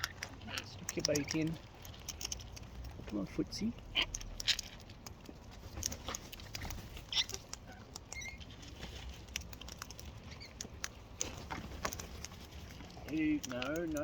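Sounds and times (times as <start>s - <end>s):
beaks clicking and tapping: 0.0s - 14.0s.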